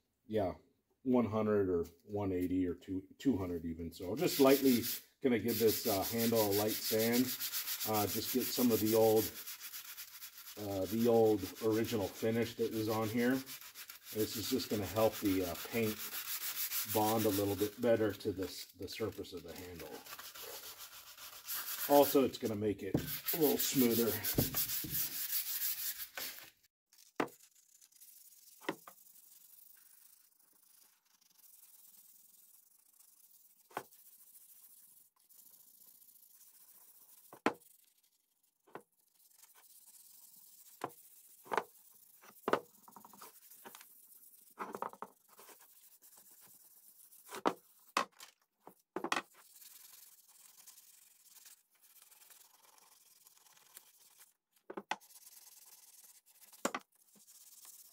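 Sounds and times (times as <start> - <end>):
sandpaper sanding wood: 4.1 - 26.5, 27.5 - 38.1, 39.0 - 47.9, 49.4 - 54.3, 55.0 - 57.9.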